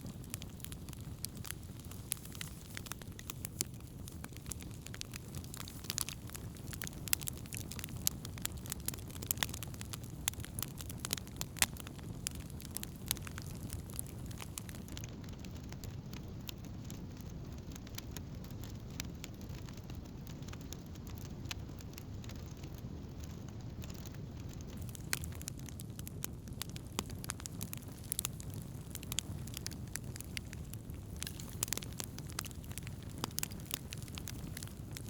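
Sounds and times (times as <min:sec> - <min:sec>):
campfire crackles and pops: 0:00.0 - 0:35.0
low rush of flame: 0:00.0 - 0:35.0.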